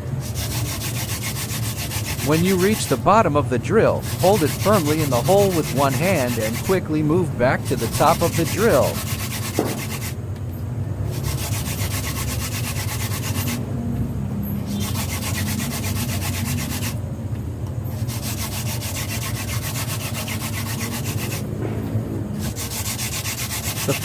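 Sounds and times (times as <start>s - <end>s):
wooden hand drill rasping: 0.2s - 3.3s, 3.9s - 10.2s, 11.1s - 13.6s, 14.7s - 17.0s, 17.9s - 21.4s, 22.4s - 24.0s.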